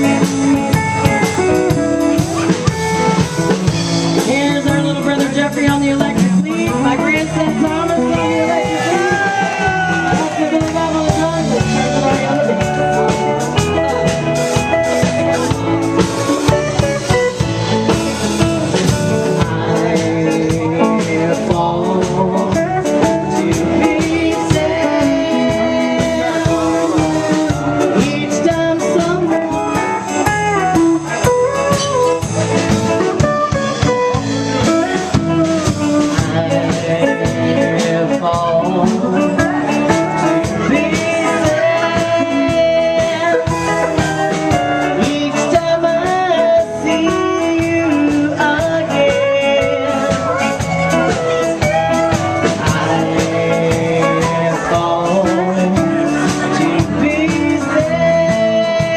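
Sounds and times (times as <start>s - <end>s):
blues guitar: 0.0s - 58.9s
drum kit beat: 0.0s - 58.9s
person singing: 0.0s - 58.9s.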